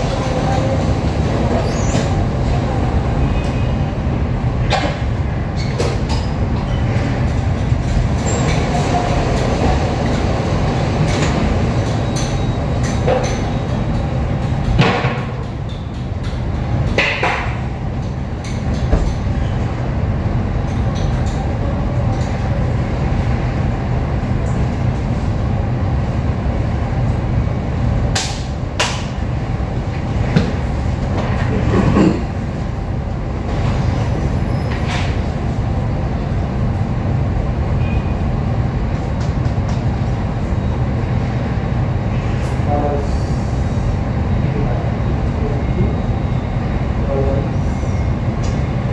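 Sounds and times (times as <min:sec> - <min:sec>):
low mechanical rumble: 0:00.0 - 0:48.9.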